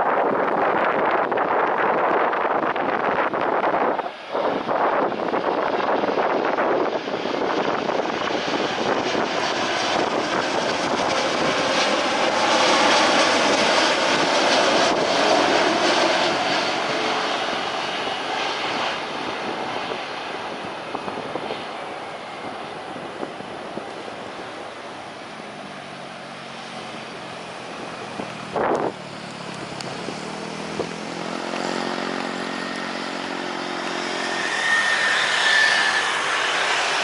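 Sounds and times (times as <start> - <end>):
jet airliner engines passing: 0.0 - 37.0.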